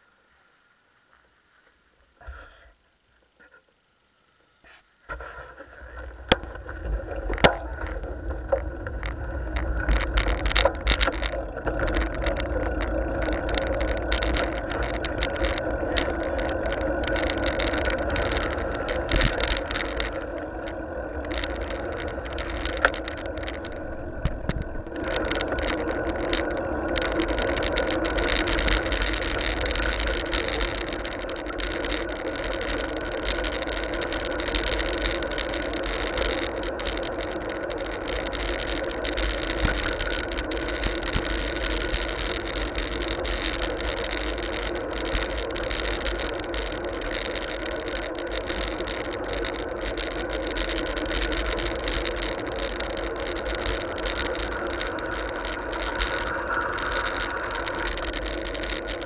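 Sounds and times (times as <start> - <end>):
constant hum: 0.0 - 59.0
tyre-on-road noise: 5.1 - 59.0
wind rumble: 5.8 - 59.0.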